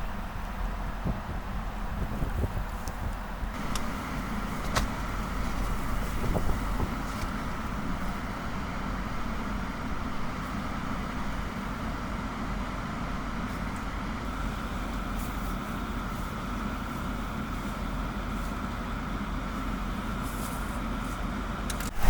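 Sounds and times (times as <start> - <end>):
vehicle engine and road rumble: 0.0 - 22.0.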